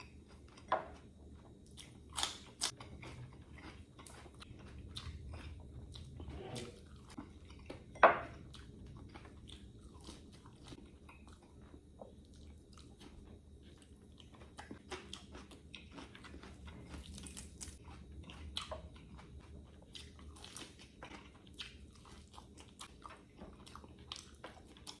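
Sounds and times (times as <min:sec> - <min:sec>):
person chewing crunchy food: 0:00.0 - 0:25.0.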